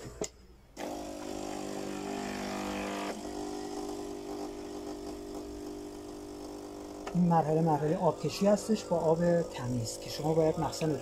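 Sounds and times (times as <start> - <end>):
espresso machine pump humming: 0.8 - 11.0.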